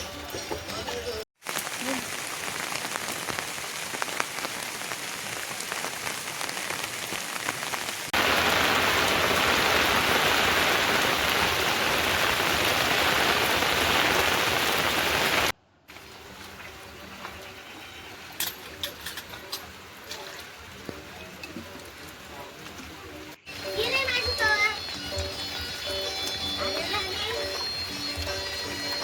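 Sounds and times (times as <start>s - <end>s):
steady rain falling: 0.0s - 29.0s
heavy downpour: 0.8s - 29.0s
raindrops ticking: 1.4s - 17.5s, 18.2s - 29.0s.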